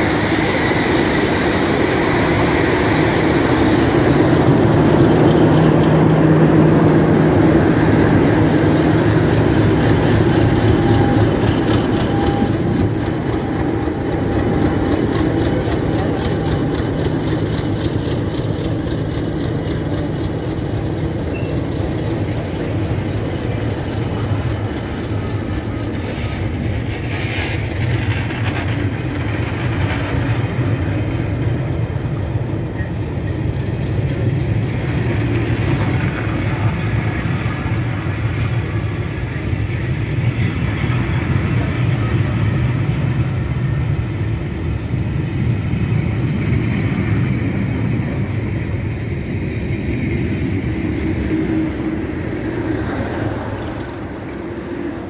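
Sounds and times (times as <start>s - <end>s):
diesel locomotive: 0.0s - 55.0s
train wheels rumbling past: 0.0s - 55.0s.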